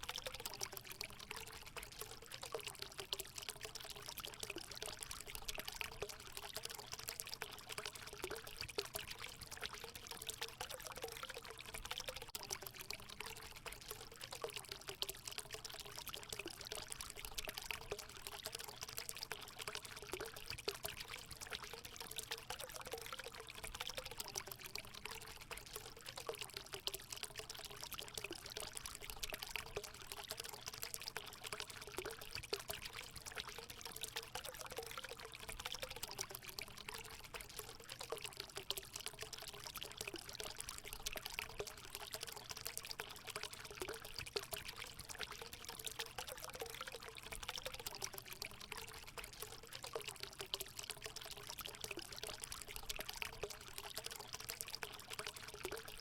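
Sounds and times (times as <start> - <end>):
water pouring into a pool: 0.0 - 56.0.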